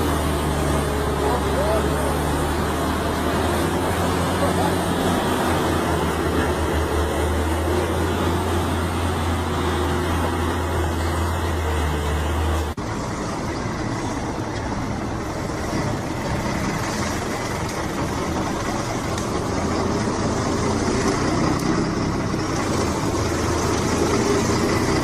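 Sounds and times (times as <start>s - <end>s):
diesel truck engine droning: 0.0s - 25.0s
rough engine rumble: 0.0s - 25.0s.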